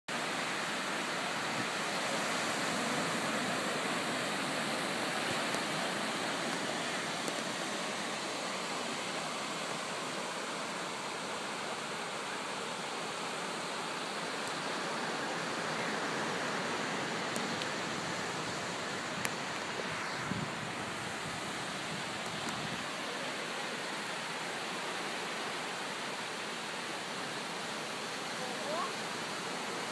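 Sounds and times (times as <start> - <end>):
ocean surf on sandy beach: 0.1 - 29.9.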